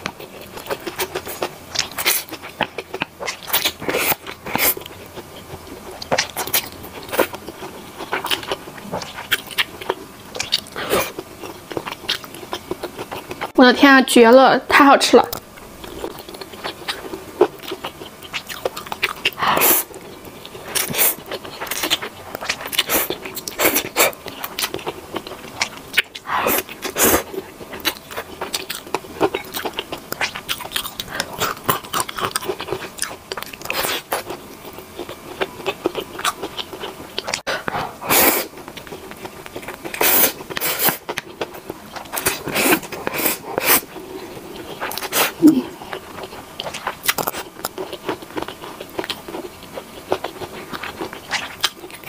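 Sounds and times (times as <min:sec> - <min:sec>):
person chewing noodles: 0:00.0 - 0:13.6, 0:15.6 - 0:52.0.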